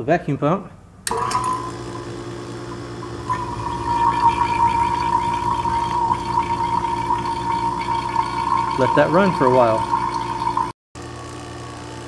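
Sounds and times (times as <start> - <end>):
vacuum pump whining: 1.0 - 10.7.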